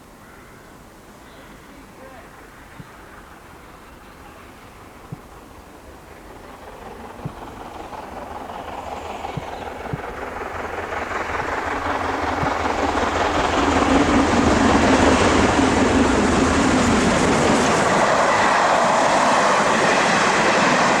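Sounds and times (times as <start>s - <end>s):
steam train running by: 1.8s - 21.0s.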